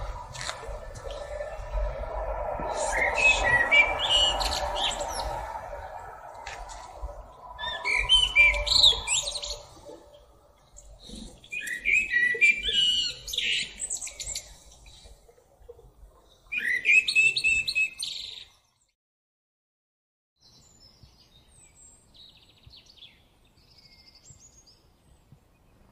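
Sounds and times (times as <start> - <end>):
blackbird singing: 0.0 - 15.2, 16.2 - 18.8, 20.4 - 25.3.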